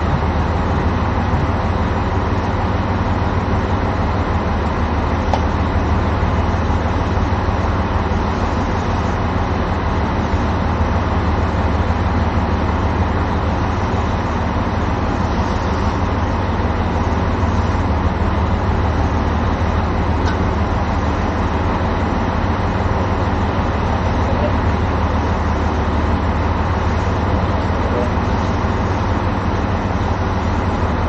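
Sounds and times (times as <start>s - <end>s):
diesel railcar engine idling: 0.0s - 31.0s.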